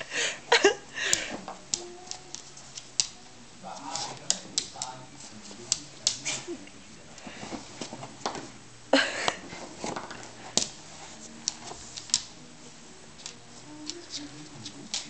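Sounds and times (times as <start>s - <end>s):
pet scuffling: 0.6s - 15.0s.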